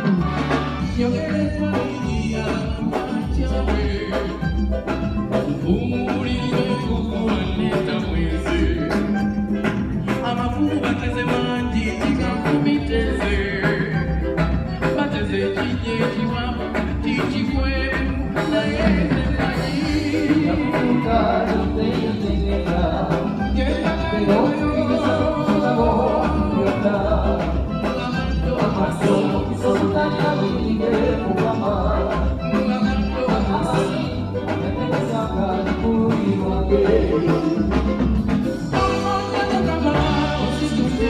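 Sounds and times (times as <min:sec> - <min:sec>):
live band playing: 0:00.0 - 0:41.0
person singing: 0:00.0 - 0:41.0
steady bass beat: 0:00.0 - 0:41.0.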